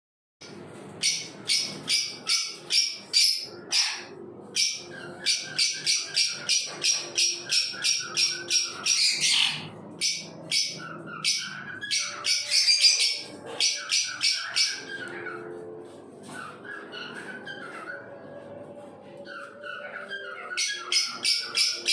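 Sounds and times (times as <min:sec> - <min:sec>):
parrot screeching: 0:01.0 - 0:18.3, 0:19.2 - 0:21.9.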